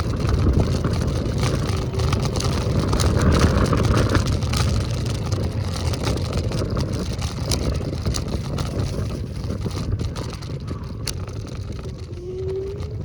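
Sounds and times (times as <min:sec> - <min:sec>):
wind and road noise rumble: 0:00.0 - 0:13.0.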